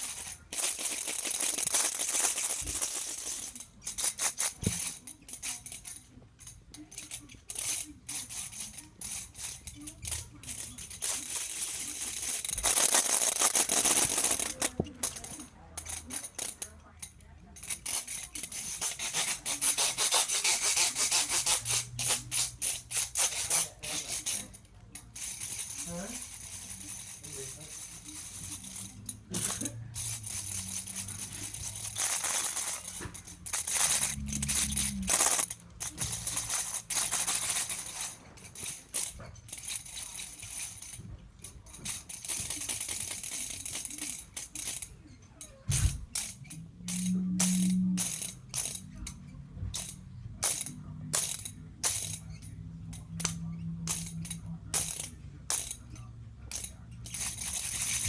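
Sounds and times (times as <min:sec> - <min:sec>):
rattling: 0:00.0 - 0:58.0.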